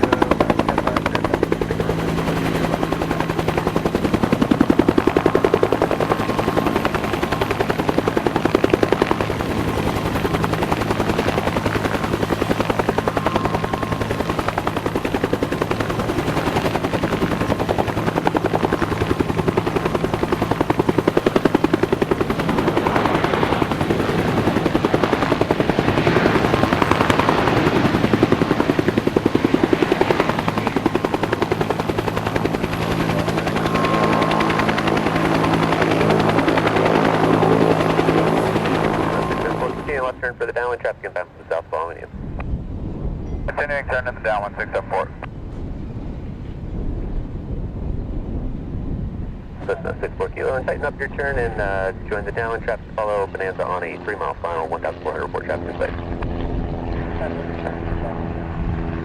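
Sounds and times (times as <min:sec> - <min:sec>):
helicopter rotor beating: 0:00.0 - 0:42.8, 0:49.4 - 0:59.0.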